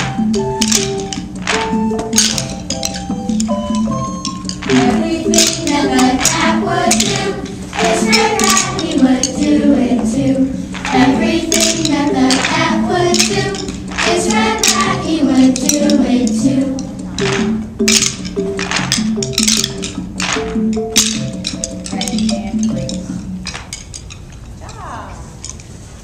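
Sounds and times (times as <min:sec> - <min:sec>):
instrumental melody: 0:00.0 - 0:24.5
wooden rhythm sticks clicking: 0:00.0 - 0:25.7.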